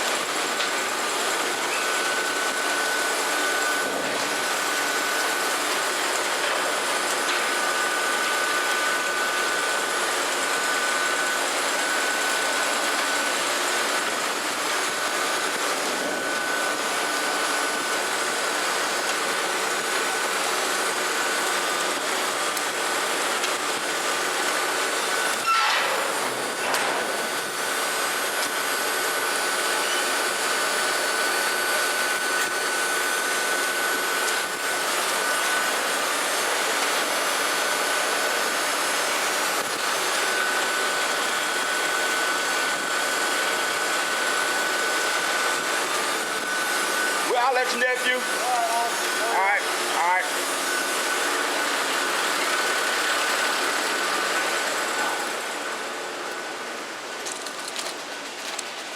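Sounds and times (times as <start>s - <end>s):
mill machinery whining: 0.0s - 58.9s.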